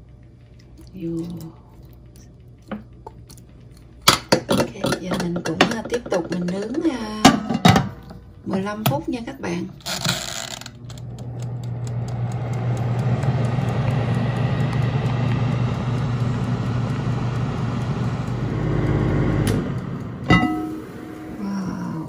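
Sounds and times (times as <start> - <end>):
oven fan whirring: 0.0 - 22.0.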